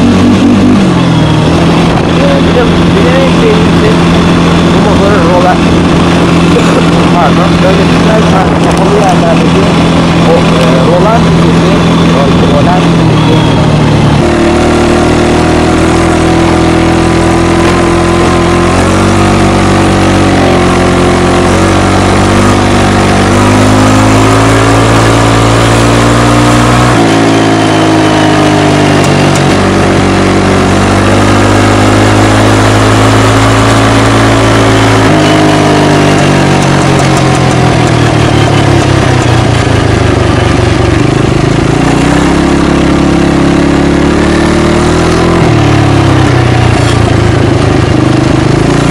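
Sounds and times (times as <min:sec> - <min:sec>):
loud engine revving through exhaust: 0:00.0 - 0:48.9.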